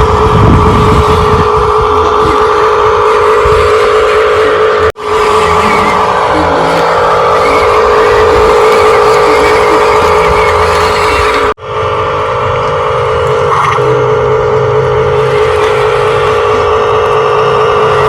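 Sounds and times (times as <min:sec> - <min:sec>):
electric motor and gearbox whining: 0:00.0 - 0:18.0.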